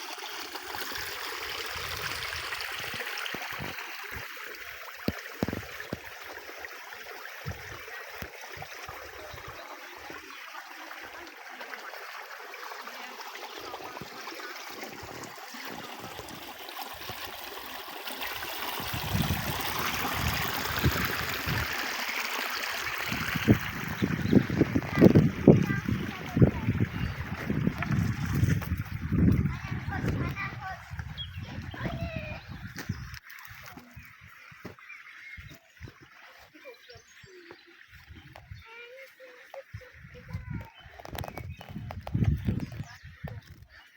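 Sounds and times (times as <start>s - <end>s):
stream flowing: 0.0s - 43.9s.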